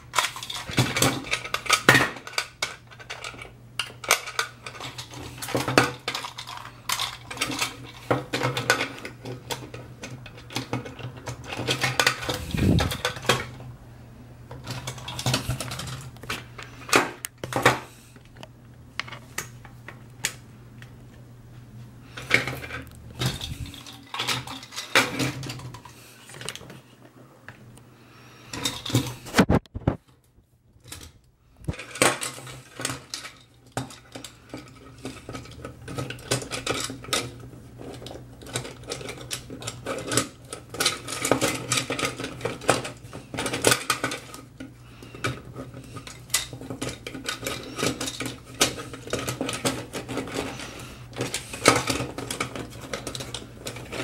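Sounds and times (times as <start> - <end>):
plastic toy pieces clattering: 0.0 - 13.7, 14.5 - 17.9, 22.1 - 26.8, 28.5 - 29.5, 30.8 - 54.0
low steady hum: 0.0 - 54.0.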